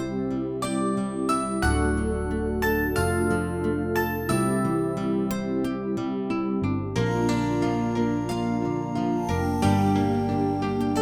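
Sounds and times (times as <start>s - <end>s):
gentle plucked instrumental music: 0.0s - 11.0s.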